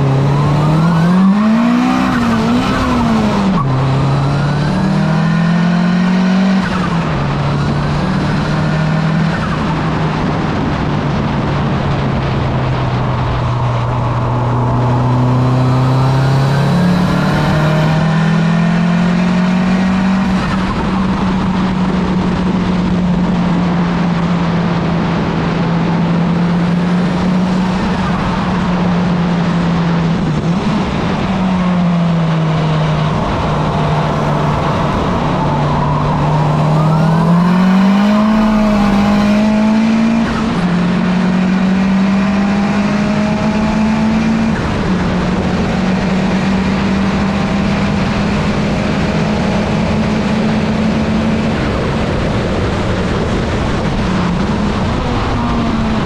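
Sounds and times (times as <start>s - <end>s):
car engine running hard: 0.0s - 56.0s
road rush: 0.0s - 56.0s
wind noise: 0.0s - 56.0s.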